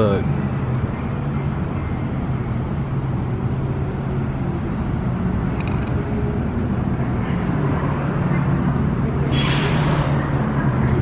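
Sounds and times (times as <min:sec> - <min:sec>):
car engine running steadily: 0:00.0 - 0:09.3
road noise: 0:00.0 - 0:11.0.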